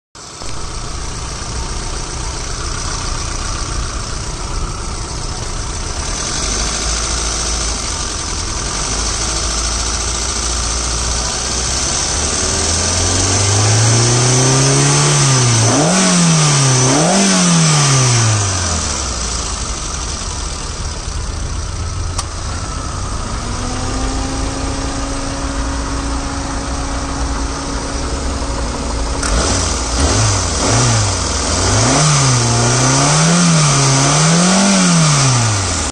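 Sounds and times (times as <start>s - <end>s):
car engine idling and revving: 0.2s - 35.9s
steady whine: 0.2s - 35.9s.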